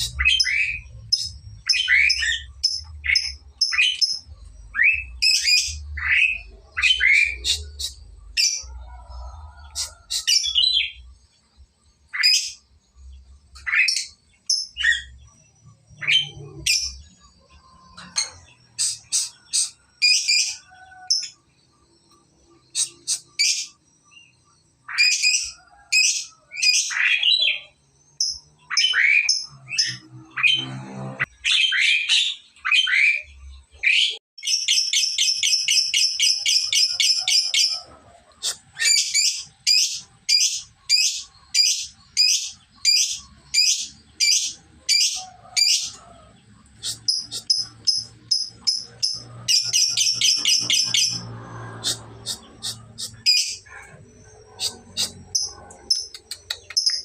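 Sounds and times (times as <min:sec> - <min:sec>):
lovebird calling and trilling: 0:00.0 - 0:08.8, 0:09.6 - 0:11.2, 0:11.9 - 0:21.4, 0:22.1 - 0:57.0.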